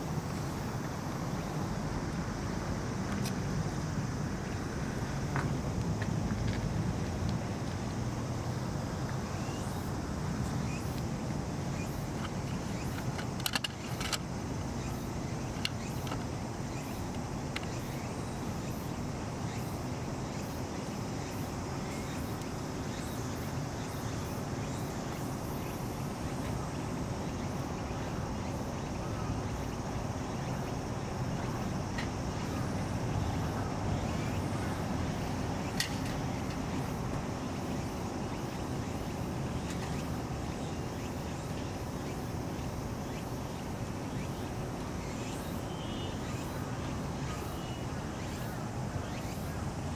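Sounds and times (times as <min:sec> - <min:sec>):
low rumble of distant traffic: 0:00.0 - 0:49.9.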